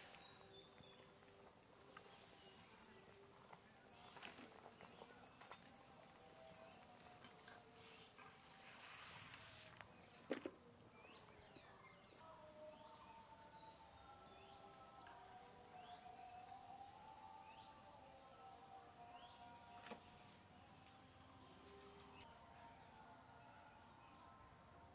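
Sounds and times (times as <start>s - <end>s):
high-pitched insect drone: 0.0s - 24.9s.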